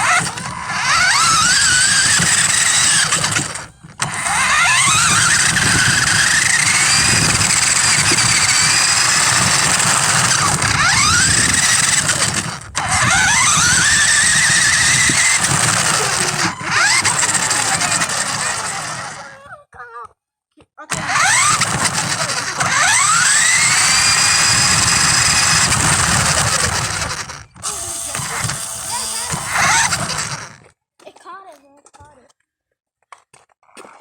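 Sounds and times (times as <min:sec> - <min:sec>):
rattling noise: 0:00.0 - 0:19.3, 0:20.9 - 0:30.6
electric motor whining: 0:00.0 - 0:19.4, 0:20.9 - 0:30.7.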